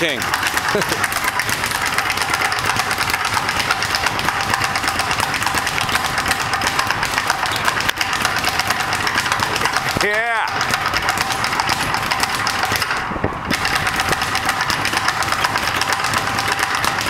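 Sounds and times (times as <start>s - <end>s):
speed bag rattling: 0.0s - 17.0s.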